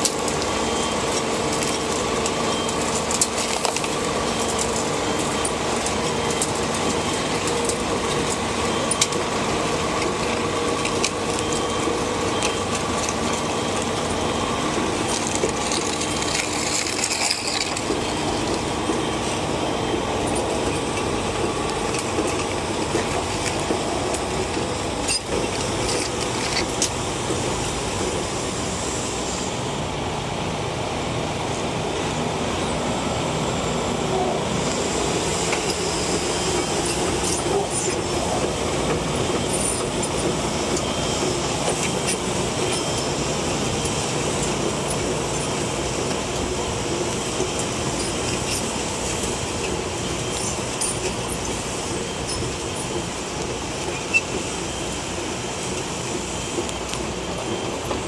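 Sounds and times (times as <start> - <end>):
diesel engine running: 0.0 - 58.0
steel tracks clanking: 0.0 - 58.0.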